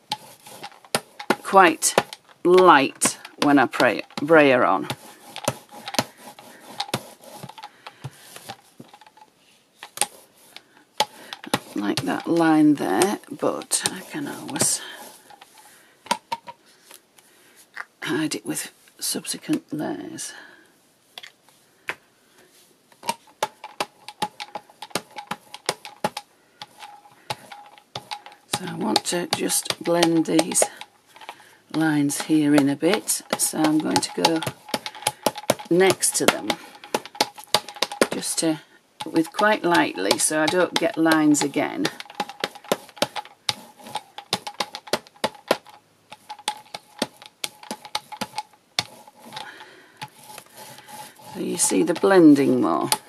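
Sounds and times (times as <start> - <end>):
rubber brayer rolling tacky clicks: 0.0 - 17.0, 22.9 - 53.0.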